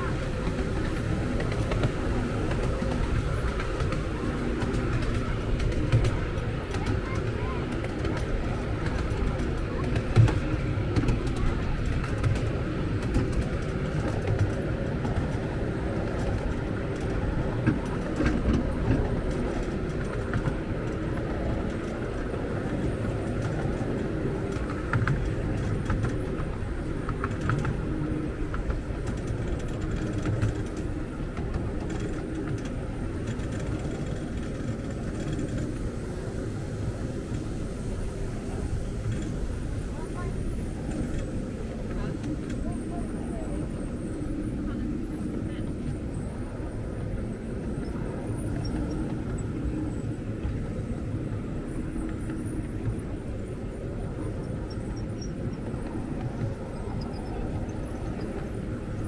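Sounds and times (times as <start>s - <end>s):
miniature train rumbling on track: 0.0s - 59.0s.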